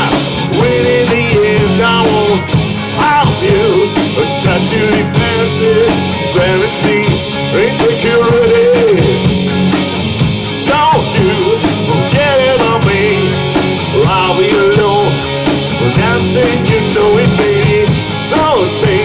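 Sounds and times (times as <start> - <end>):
distorted electric guitars: 0.0 - 19.0
steady drum beat: 0.0 - 19.0.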